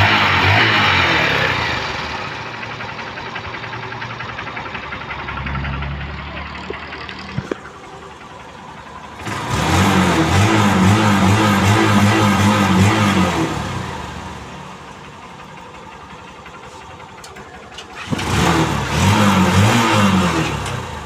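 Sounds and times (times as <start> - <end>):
motorcycle engine idling: 1.0 - 18.9.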